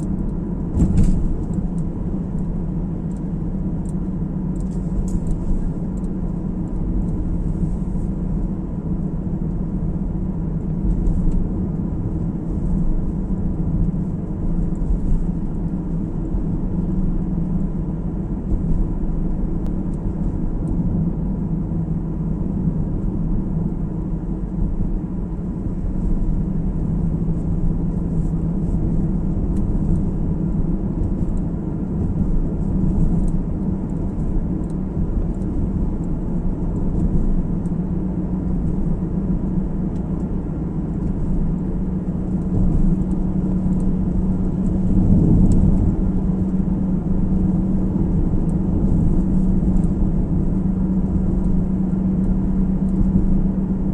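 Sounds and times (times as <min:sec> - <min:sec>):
car road and engine rumble: 0:00.0 - 0:53.9.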